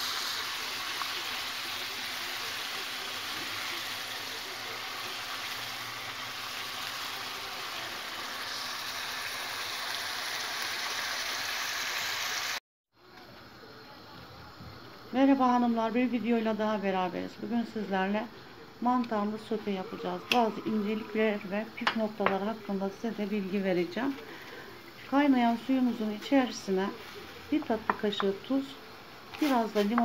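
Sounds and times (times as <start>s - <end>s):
food sizzling in a frying pan: 0.0s - 12.6s, 14.8s - 30.0s.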